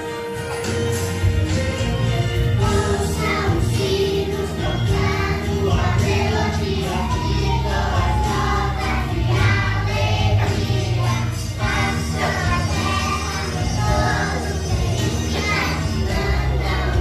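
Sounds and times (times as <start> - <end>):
musical accompaniment: 0.0 - 17.0
children singing into microphones: 2.6 - 17.0.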